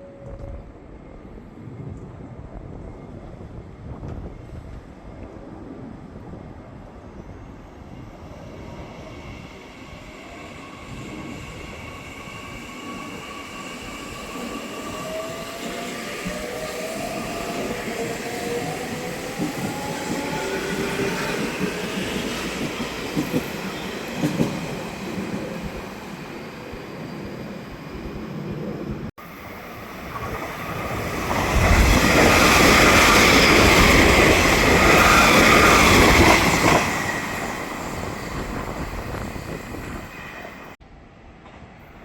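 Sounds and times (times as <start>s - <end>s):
train rail and running noise: 0.0s - 42.0s
train whining tones: 7.0s - 40.8s.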